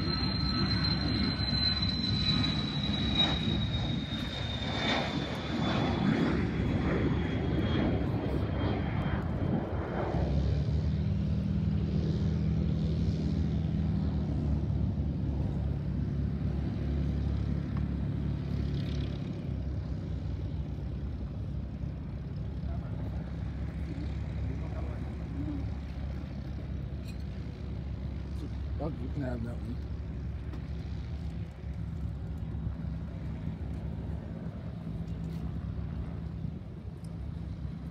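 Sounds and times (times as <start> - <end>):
jet turbine whine: 0.0 - 37.9
propeller plane engine droning: 0.0 - 37.9.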